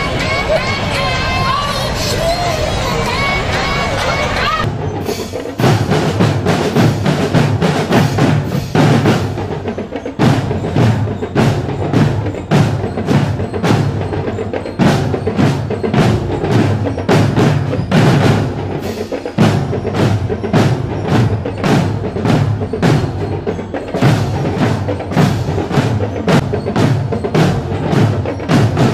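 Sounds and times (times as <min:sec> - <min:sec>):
marching snare drum strokes: 0:04.0 - 0:28.9.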